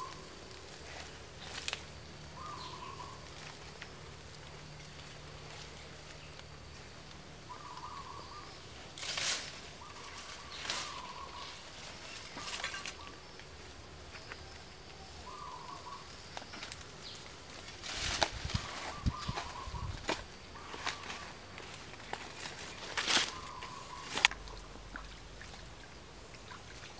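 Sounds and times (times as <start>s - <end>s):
branches rustling: 0.0s - 26.9s.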